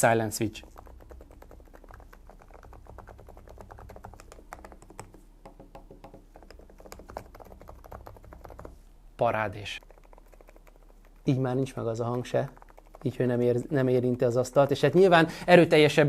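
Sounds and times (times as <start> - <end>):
soft keyboard typing: 0.4 - 8.8, 9.8 - 15.1.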